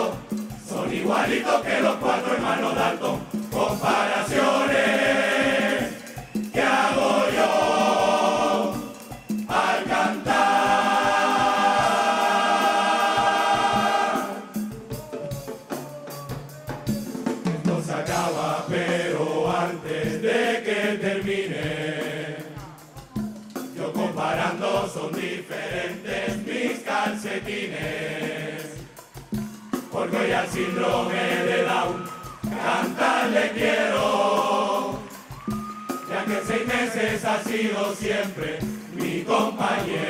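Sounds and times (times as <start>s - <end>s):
chorus singing: 0.0s - 40.0s
steady drum beat: 0.0s - 40.0s.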